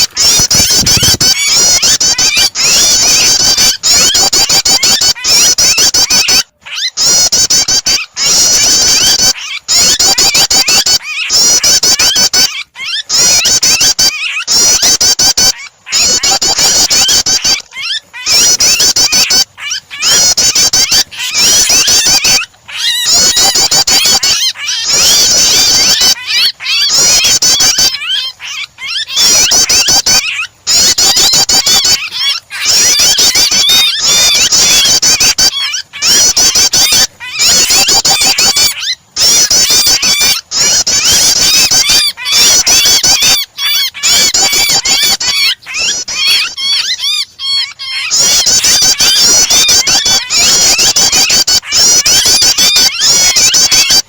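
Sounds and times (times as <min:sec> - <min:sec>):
shrill bird distress cries: 0:00.0 - 0:54.0
songbird chirping: 0:00.0 - 0:54.0.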